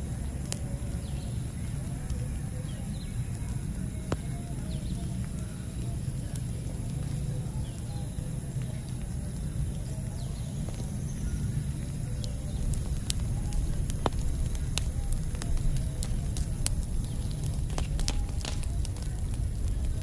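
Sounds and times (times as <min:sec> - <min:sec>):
burning wood crackling and popping: 0:00.0 - 0:20.0
low rumble of flame: 0:00.0 - 0:20.0.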